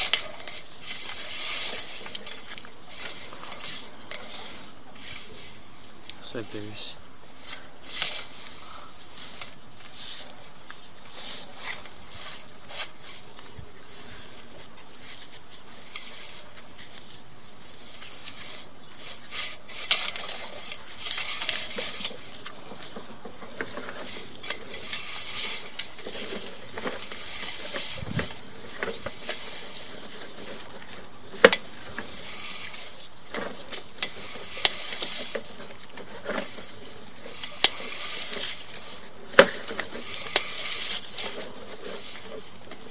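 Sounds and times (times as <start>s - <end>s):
cable scraping and rattling: 0.0s - 42.9s
steady hiss: 0.0s - 42.9s.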